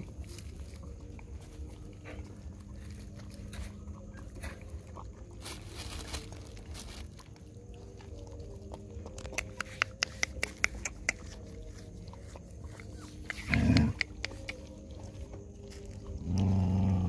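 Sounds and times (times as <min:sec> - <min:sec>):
dogs chewing and lapping: 0:00.0 - 0:17.0.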